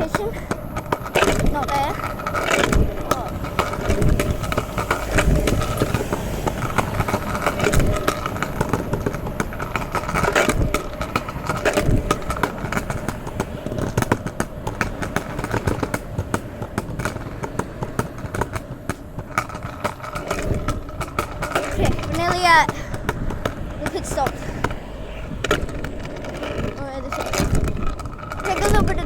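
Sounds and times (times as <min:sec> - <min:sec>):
small hard wheels rolling on wet pavement: 0:00.0 - 0:29.0.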